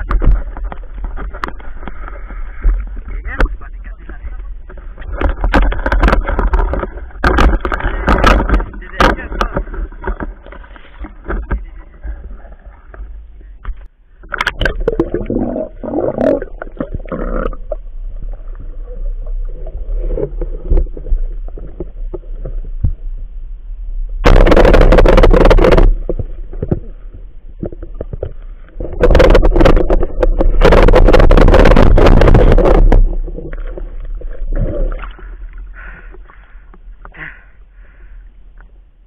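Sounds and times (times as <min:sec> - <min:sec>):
low underwater rumble: 0:00.0 - 0:39.0.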